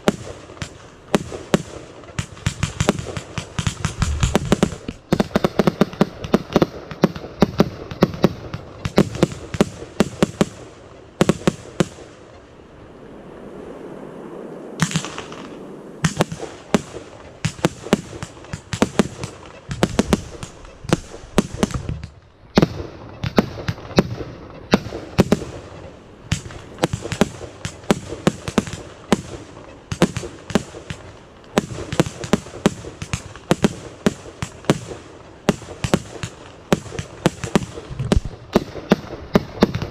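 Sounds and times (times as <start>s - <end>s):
fireworks bangs and crackles: 0.0s - 12.4s, 14.8s - 39.9s.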